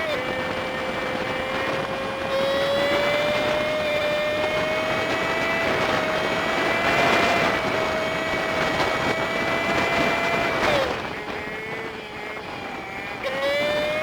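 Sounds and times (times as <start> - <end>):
high-pitched engine whine: 0.0 - 14.0
wind and road noise: 0.0 - 14.0.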